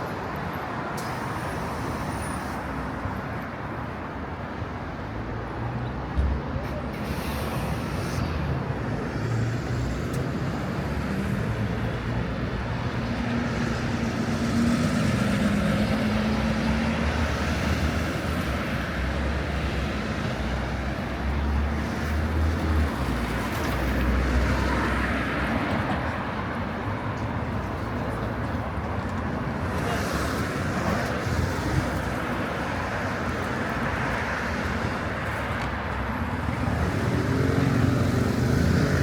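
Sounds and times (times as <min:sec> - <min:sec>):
passing cars: 0:00.0 - 0:39.0.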